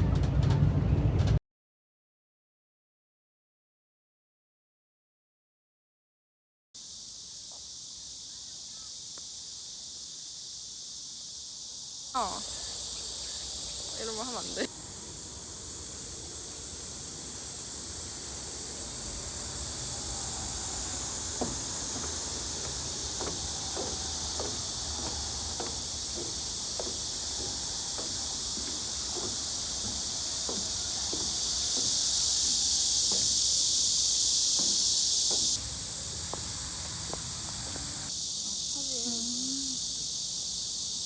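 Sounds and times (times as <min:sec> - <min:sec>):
cicada chorus drone: 0:06.8 - 0:41.0.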